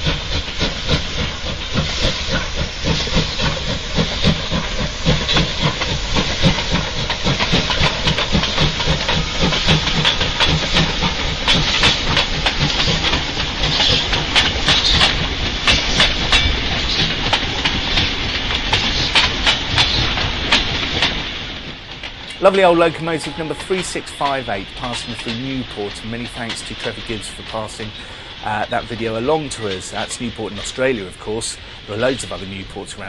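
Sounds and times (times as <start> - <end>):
rhythmic locomotive exhaust beat: 0.0 - 33.0
steam hissing: 0.0 - 33.0
train wheels clicking on rails: 0.0 - 33.0.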